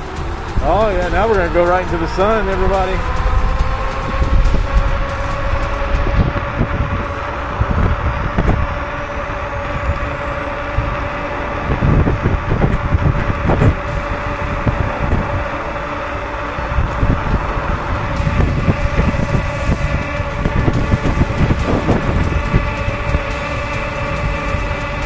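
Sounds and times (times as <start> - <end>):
electric scooter motor whine: 0.0 - 25.0
road and wind rumble: 0.0 - 25.0.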